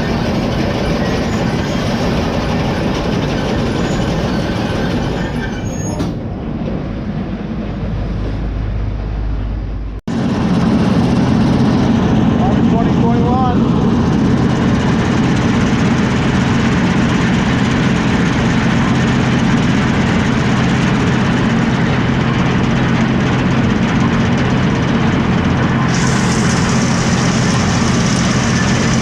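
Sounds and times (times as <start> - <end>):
combine harvester engine running: 0.0 - 29.0.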